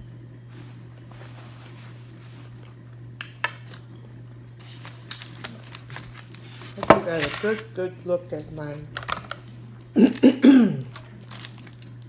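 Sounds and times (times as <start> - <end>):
steady low hum: 0.0 - 12.0
eating and handling at table: 0.3 - 12.0.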